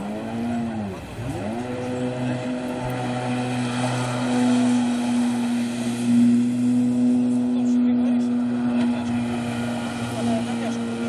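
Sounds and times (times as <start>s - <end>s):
jet ski engine running: 0.0s - 11.0s.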